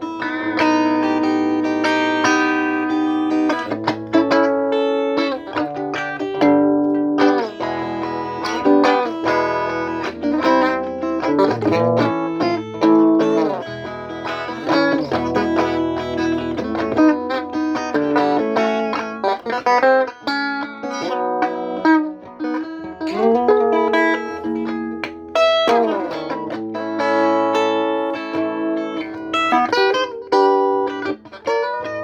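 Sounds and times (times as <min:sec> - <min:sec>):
guitar playing: 0:00.0 - 0:32.0.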